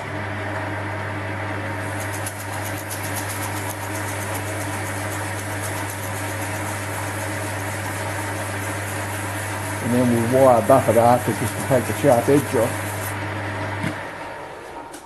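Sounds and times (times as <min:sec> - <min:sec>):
lathe motor humming: 0:00.0 - 0:15.0.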